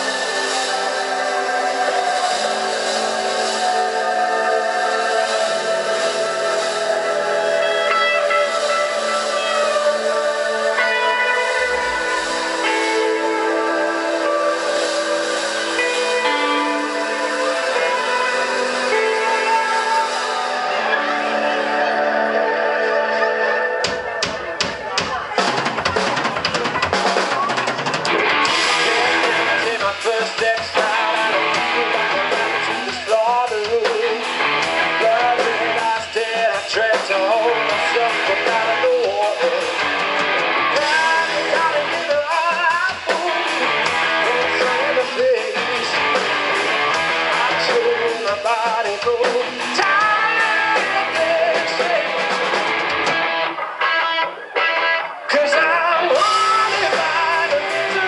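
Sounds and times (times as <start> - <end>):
live rock band: 0.0 - 58.0
wavering lead guitar line: 0.0 - 58.0.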